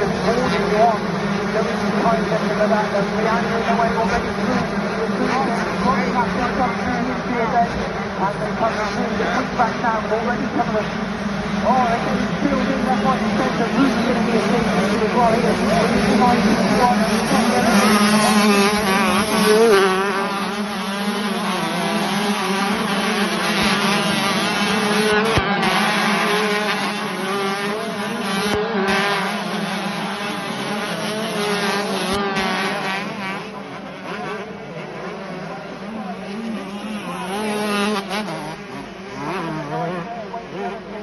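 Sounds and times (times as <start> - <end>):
motocross bikes revving: 0.0 - 41.0.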